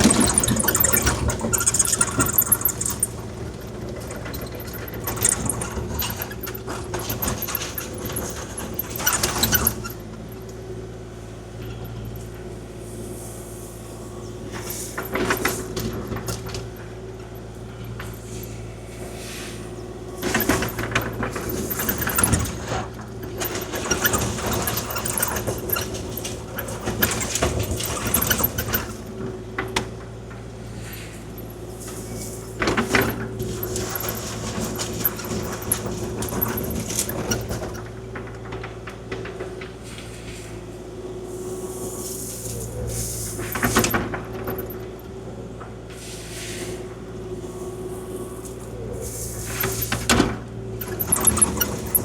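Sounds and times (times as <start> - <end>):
excavator diesel engine running: 0.0 - 40.1, 46.8 - 52.0.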